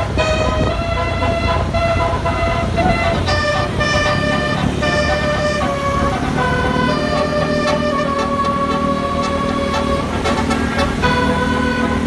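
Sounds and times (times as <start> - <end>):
bus multi-tone horn tune: 0.0 - 12.0
low engine rumble: 0.0 - 12.0.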